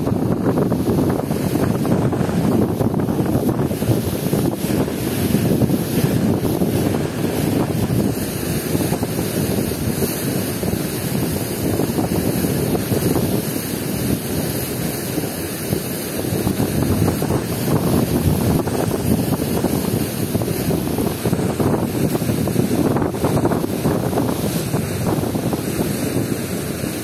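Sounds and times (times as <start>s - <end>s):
river water rushing: 0.0s - 27.0s
wind buffeting microphone: 0.0s - 27.0s.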